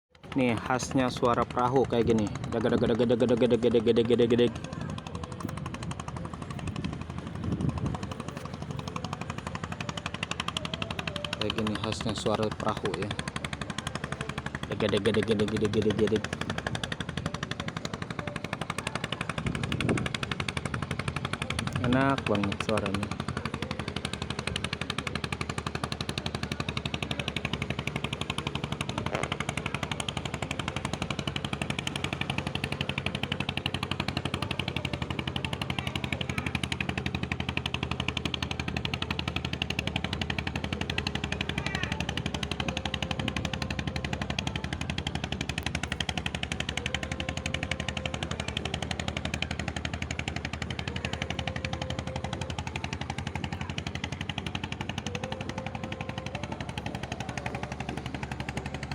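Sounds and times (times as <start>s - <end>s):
boat engine chugging: 0.1s - 58.9s.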